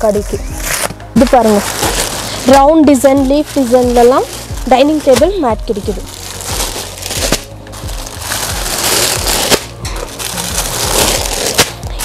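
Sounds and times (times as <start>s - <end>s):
packaging rustling: 0.0s - 12.0s.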